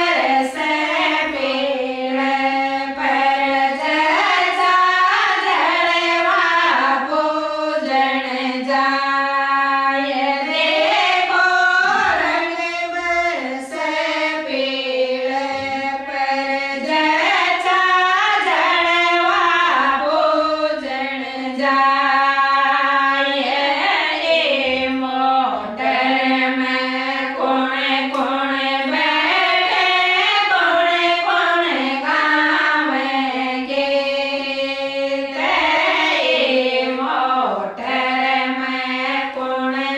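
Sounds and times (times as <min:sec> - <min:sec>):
women singing in unison: 0:00.0 - 0:39.9.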